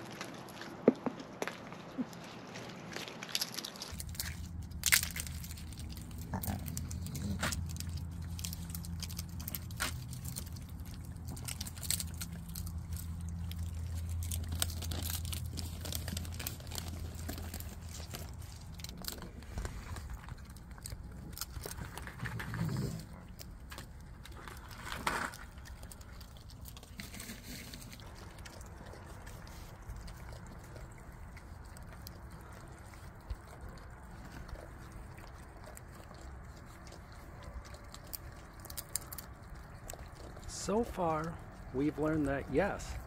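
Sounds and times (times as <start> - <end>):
low hum: 0.0 - 43.0
raccoons crunching and chewing: 0.0 - 43.0
sharp crackles: 0.0 - 43.0.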